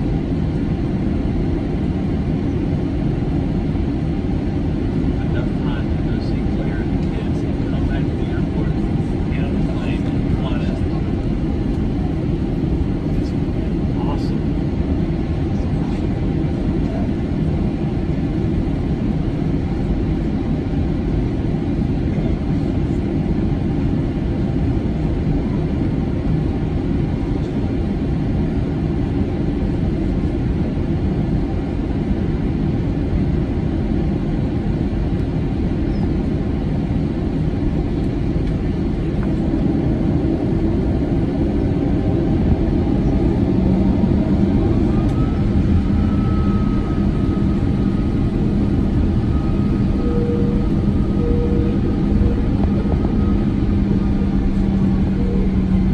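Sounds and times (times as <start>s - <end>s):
jet engines idling cabin rumble: 0.0s - 55.9s.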